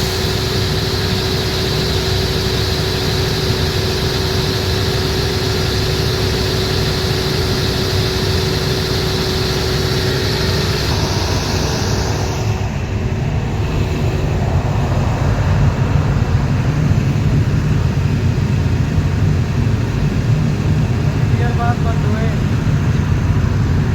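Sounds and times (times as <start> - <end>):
high rushing hiss: 0.0 - 23.5
diesel generator rumbling: 0.0 - 23.9.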